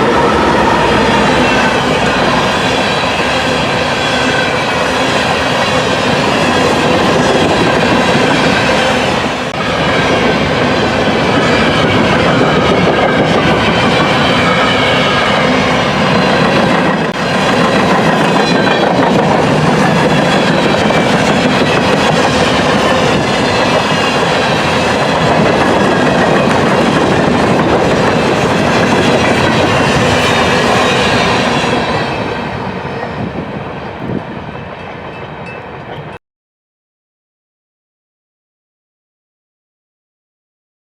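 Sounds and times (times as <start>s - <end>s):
freight train wheels clattering on rails: 0.0s - 36.2s.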